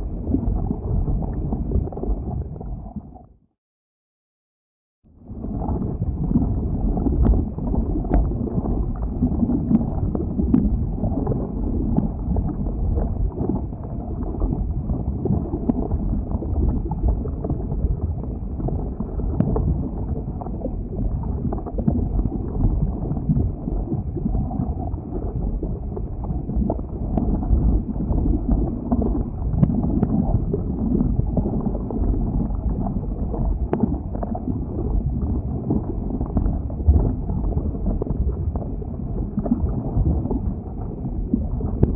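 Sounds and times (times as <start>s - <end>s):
lava flow low rushing: 0.0s - 3.2s, 5.2s - 41.9s.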